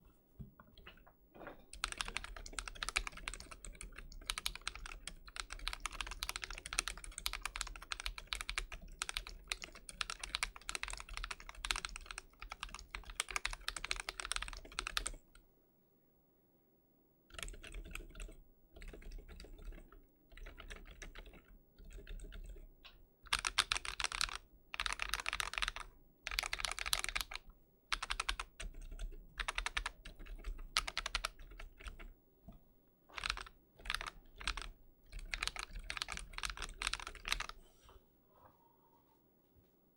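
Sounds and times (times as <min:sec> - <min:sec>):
mechanical keyboard typing: 0:01.7 - 0:15.2, 0:17.3 - 0:22.7, 0:23.3 - 0:32.1, 0:33.1 - 0:37.6.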